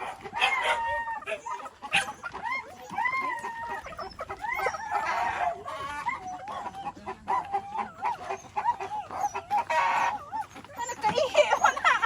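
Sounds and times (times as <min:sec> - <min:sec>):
chicken squawk: 0:00.0 - 0:12.0
chickens clucking: 0:00.0 - 0:12.0.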